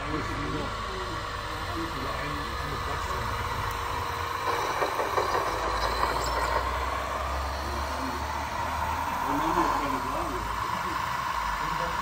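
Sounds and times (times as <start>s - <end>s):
toy truck motor humming: 0.0s - 12.0s.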